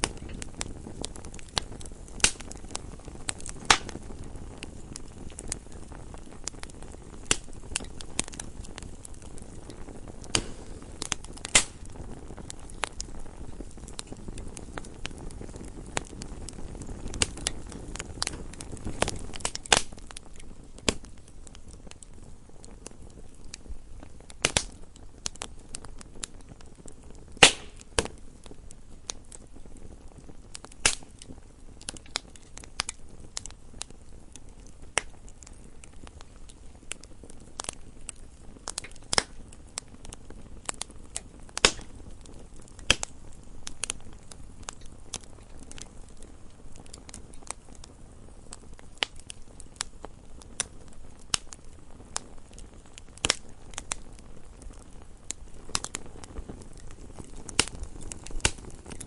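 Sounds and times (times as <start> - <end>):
sharp pops and snaps of fire: 0.0 - 59.0
wood fire crackling: 0.0 - 59.0.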